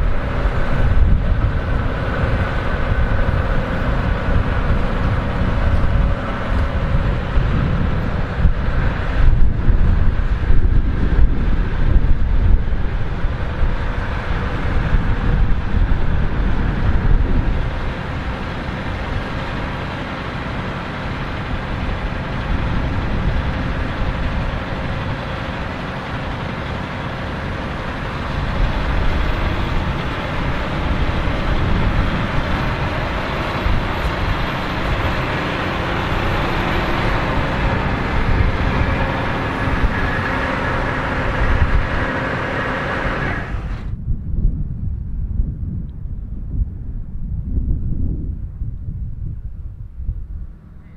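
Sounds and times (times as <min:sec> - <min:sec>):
harvester machinery din: 0:00.0 - 0:44.0
tractor diesel engine running: 0:00.0 - 0:44.0.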